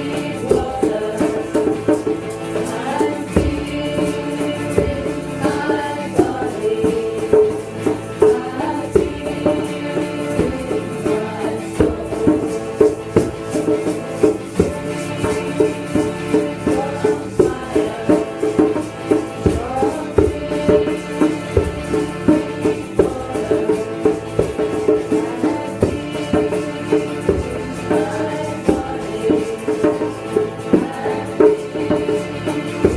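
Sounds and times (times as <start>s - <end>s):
shaker rattle beat: 0.0s - 32.9s
sustained pitched instruments: 0.0s - 32.9s
voices singing: 0.0s - 32.9s.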